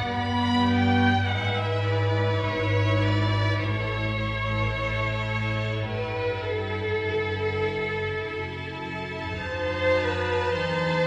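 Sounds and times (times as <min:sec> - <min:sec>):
music with long held chords: 0:00.0 - 0:11.0.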